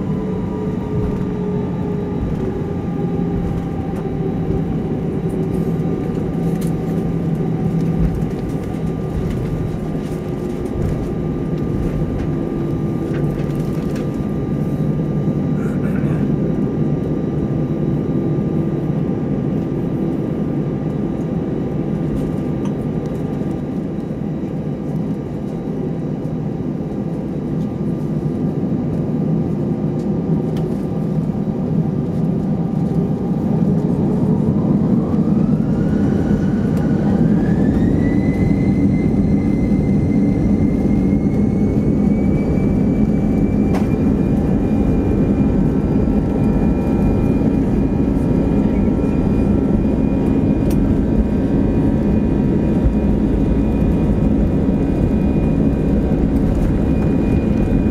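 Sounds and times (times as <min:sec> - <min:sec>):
jet engine rumble in cabin: 0:00.0 - 0:57.9
jet engine whine rising: 0:00.0 - 0:57.9.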